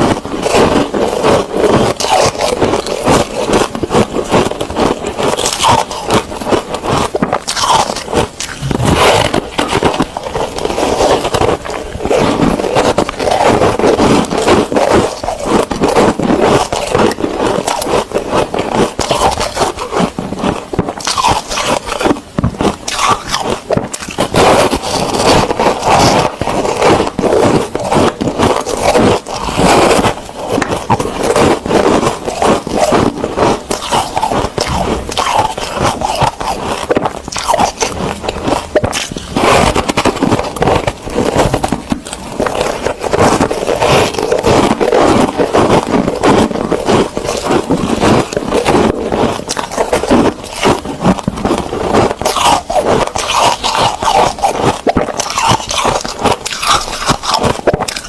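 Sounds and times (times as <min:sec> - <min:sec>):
crunchy chewing of ice: 0:00.0 - 0:58.0.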